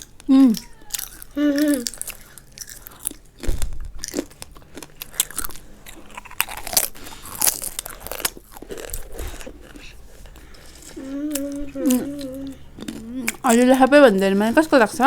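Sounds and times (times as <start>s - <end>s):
crisps being crunched: 0.4s - 13.9s.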